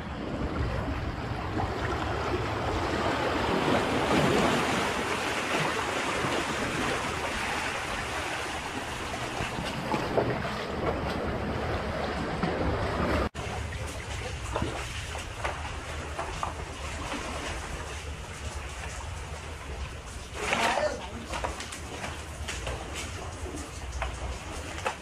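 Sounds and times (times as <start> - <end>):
wind buffeting microphone: 0.0 - 20.4
seawater washing over pebbles: 0.2 - 25.0.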